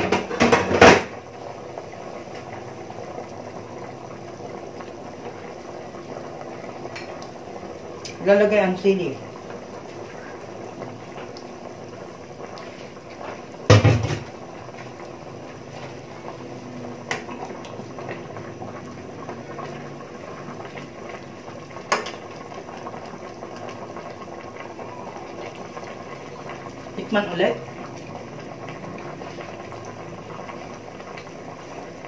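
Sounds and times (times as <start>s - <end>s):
stew bubbling in a pot: 0.0s - 32.0s.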